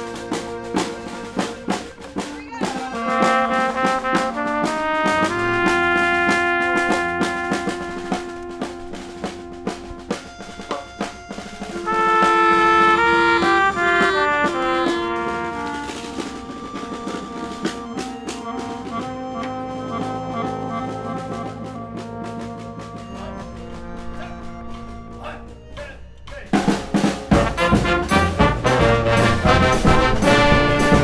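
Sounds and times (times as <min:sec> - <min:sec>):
brass band marching tune: 0:00.0 - 0:31.0.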